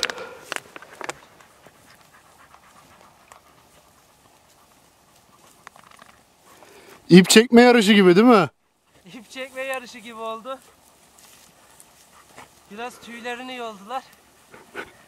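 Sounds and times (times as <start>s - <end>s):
rustling: 0.0s - 7.1s, 8.6s - 15.0s
dogs panting: 0.0s - 7.2s, 8.5s - 15.0s.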